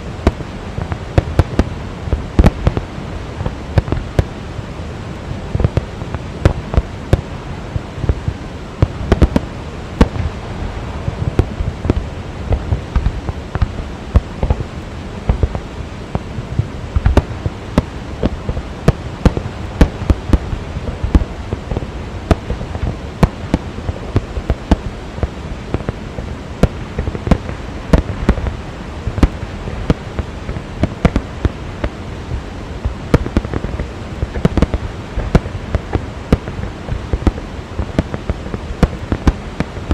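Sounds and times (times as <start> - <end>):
fireworks bangs and crackles: 0.0 - 4.4, 5.4 - 39.9
continuous rushing din: 0.0 - 39.9.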